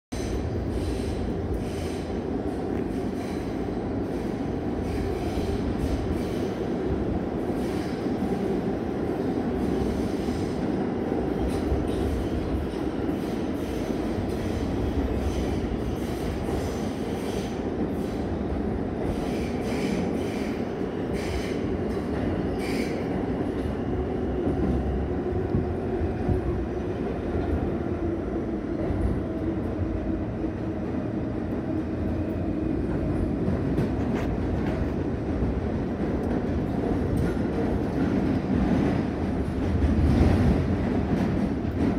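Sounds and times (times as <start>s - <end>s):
subway wheels rumbling on rail: 0.1s - 41.9s.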